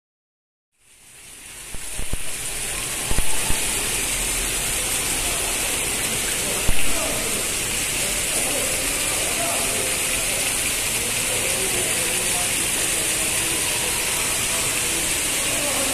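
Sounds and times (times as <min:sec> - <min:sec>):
fountain water splashing: 0:00.8 - 0:15.9.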